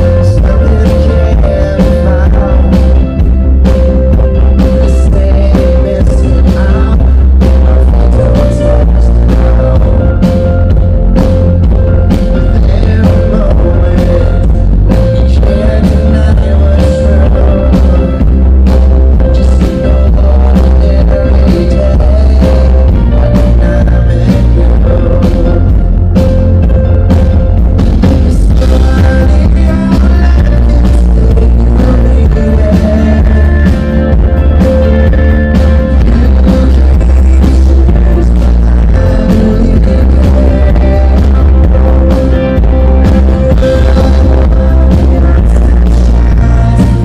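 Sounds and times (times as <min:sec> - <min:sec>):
drums beating: 0:00.0 - 0:47.0
live rock band playing: 0:00.0 - 0:47.0.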